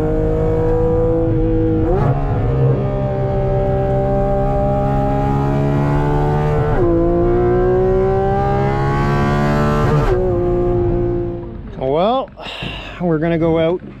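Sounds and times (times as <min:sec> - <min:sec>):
sports car engine accelerating: 0:00.0 - 0:11.8.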